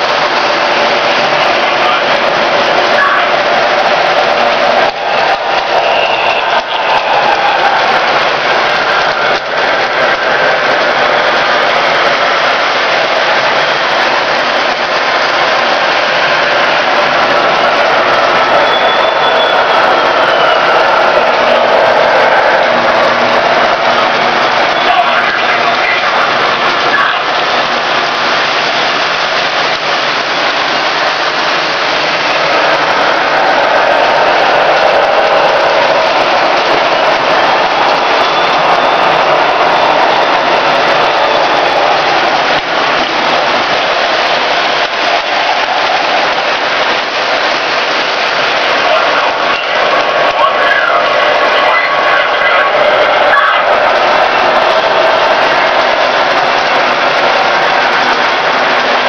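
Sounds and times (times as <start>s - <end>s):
model trains rolling on metal track: 0.0s - 59.0s.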